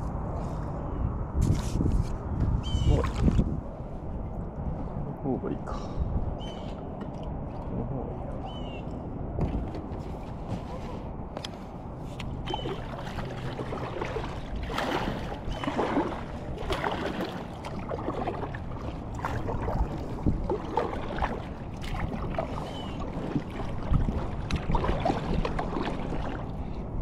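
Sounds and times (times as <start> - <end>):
water splashing and lapping: 1.5 - 8.2, 9.0 - 27.0.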